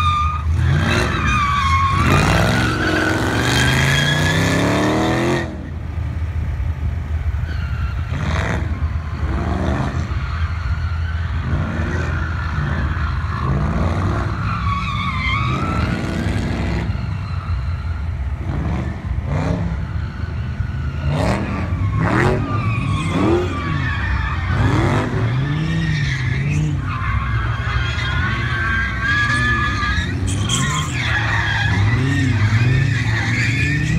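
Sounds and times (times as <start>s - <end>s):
tires squealing and skidding: 0.0s - 6.0s, 7.3s - 33.9s
car engines revving: 0.0s - 33.9s.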